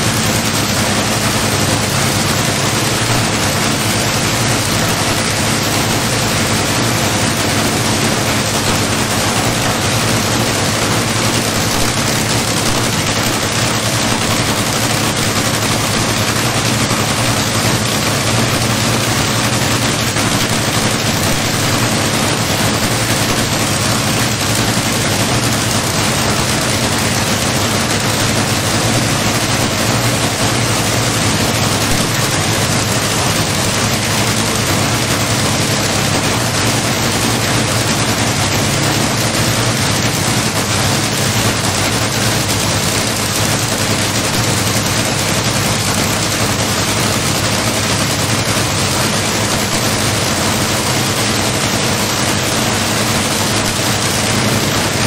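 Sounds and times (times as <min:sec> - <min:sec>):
loud engine crackling: 0:00.0 - 0:55.0.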